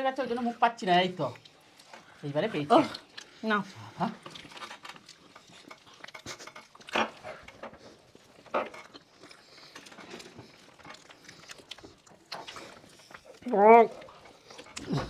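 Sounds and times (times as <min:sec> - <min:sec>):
people eating wet smacking: 0:00.8 - 0:15.0.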